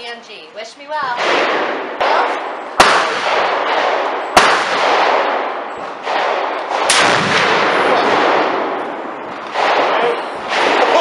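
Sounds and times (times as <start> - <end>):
gunshots echoing: 1.1 - 11.0.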